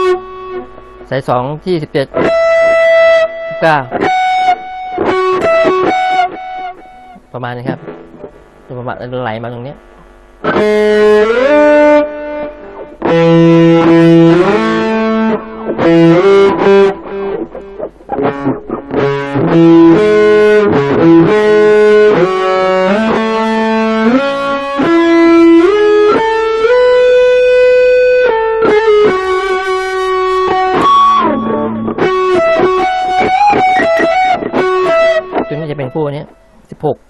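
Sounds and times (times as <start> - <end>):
electric guitar lead solo: 0.0 - 8.6, 9.8 - 36.7.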